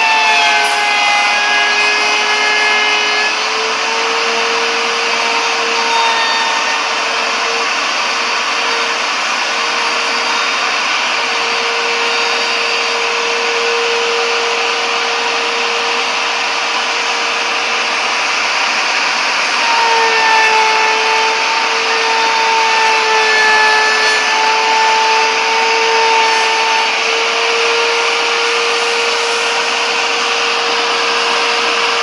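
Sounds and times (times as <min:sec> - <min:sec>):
bit rasping through wood: 0:00.0 - 0:32.0
wood router whining: 0:00.0 - 0:32.0.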